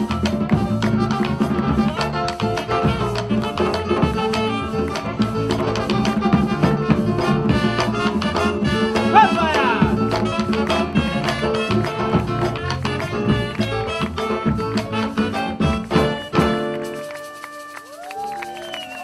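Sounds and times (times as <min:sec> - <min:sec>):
hand drums: 0:00.0 - 0:18.8
cumbia band playing: 0:00.0 - 0:19.0.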